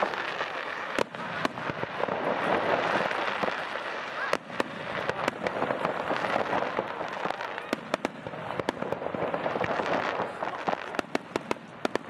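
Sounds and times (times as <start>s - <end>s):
fireworks crackling: 0.0s - 12.0s
fireworks sharp pops: 0.0s - 12.0s.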